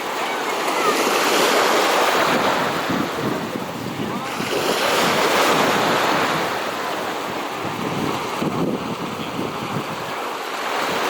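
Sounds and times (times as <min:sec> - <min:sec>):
sea water rushing: 0:00.0 - 0:11.0
wind buffeting microphone: 0:01.8 - 0:11.0.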